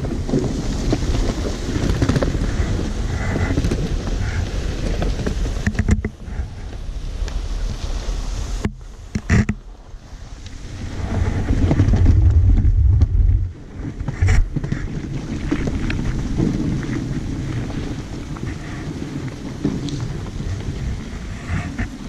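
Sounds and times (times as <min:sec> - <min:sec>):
sled runners scraping on snow: 0:00.0 - 0:22.0
wind rumble on microphone: 0:00.0 - 0:22.0.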